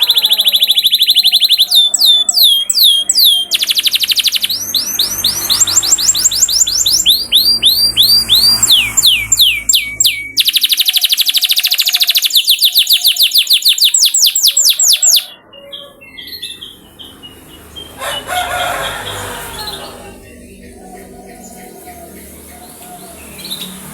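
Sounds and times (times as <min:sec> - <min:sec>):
canary chirps: 0:00.0 - 0:23.9
canary singing: 0:00.0 - 0:23.9.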